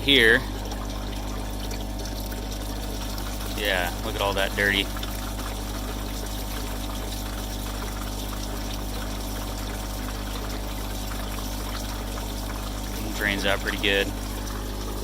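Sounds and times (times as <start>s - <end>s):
water pouring from drain valve: 0.0s - 15.0s.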